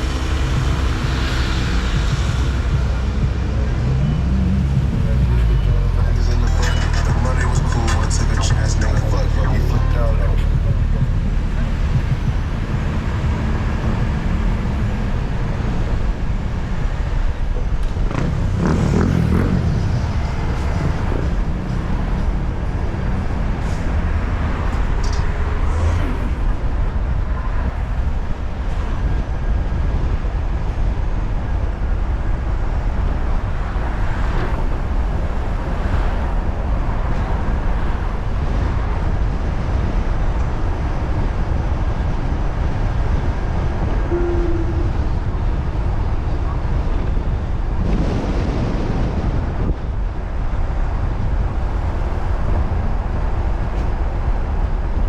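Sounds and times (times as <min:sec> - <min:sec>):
vehicle passing: 0:00.0 - 0:30.9, 0:31.6 - 0:55.0
engine and tyre rumble: 0:00.0 - 0:55.0.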